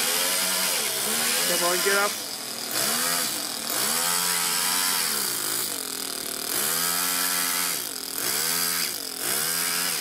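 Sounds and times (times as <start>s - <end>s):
small engine revving: 0.0s - 10.0s.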